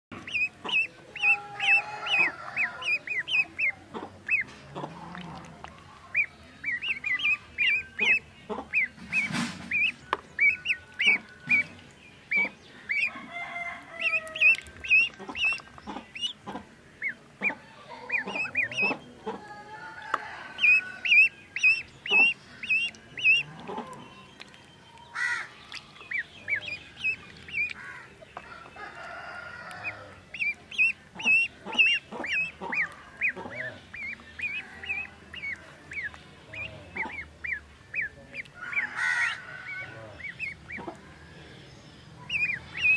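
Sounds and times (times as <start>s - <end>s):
water splashing: 0.1s - 19.4s, 20.0s - 41.2s
ducklings peeping: 0.1s - 42.9s.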